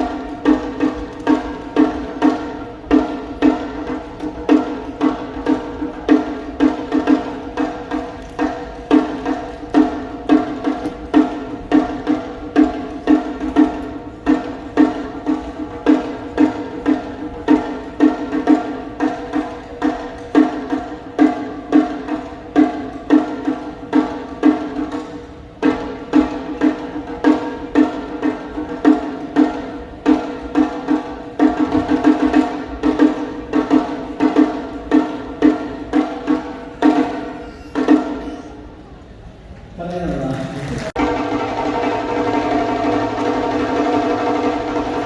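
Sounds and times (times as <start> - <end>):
taiko drum strikes: 0.0 - 39.0, 40.0 - 45.0.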